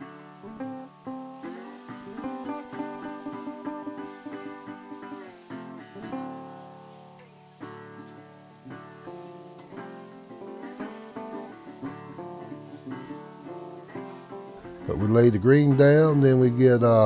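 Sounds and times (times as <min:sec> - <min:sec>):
background music with plucked guitar: 0:00.0 - 0:17.0.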